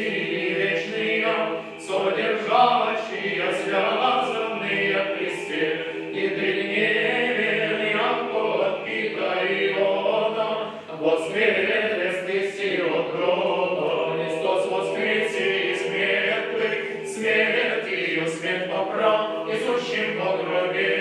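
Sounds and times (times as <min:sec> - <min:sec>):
male choir chanting a cappella: 0:00.0 - 0:21.0.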